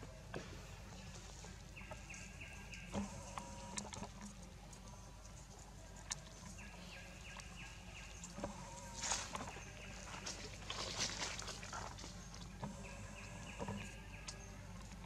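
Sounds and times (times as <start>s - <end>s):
crackling rustle: 2.9s - 15.0s.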